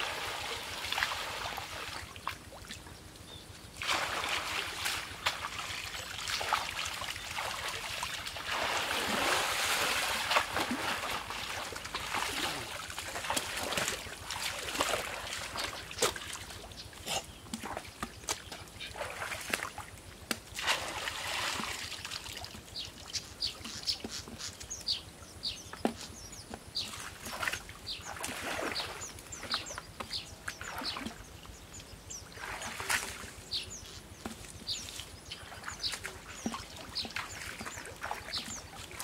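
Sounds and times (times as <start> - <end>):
pond water splashing: 0.0 - 25.1, 25.8 - 31.6, 32.2 - 39.0.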